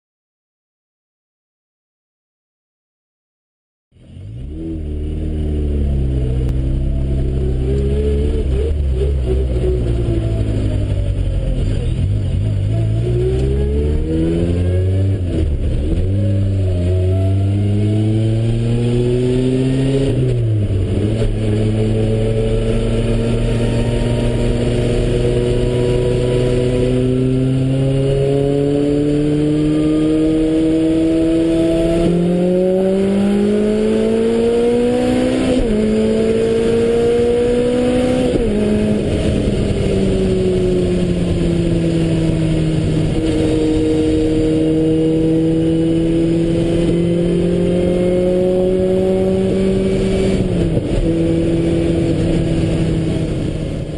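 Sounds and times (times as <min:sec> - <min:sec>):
car engine accelerating hard: 0:04.0 - 0:53.9.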